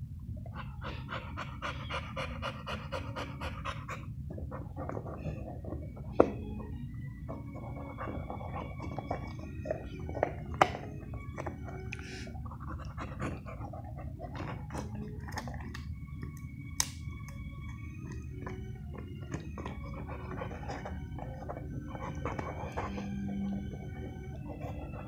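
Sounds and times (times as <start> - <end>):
dog gnawing a chew: 0.4 - 25.0.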